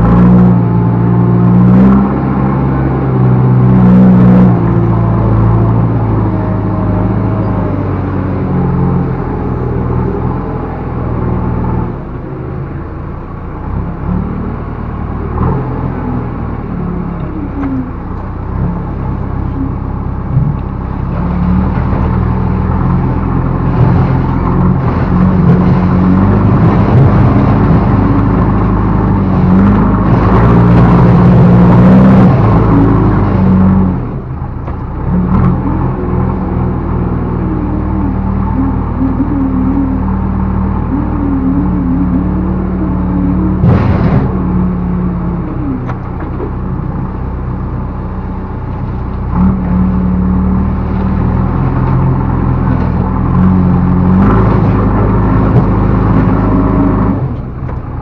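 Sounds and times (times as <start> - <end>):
backhoe diesel engine working: 0.0 - 58.0.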